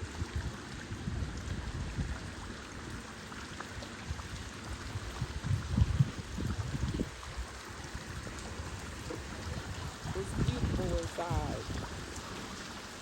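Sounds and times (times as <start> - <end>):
water drips: 0.0 - 13.0
water splashing and trickling: 0.0 - 13.0.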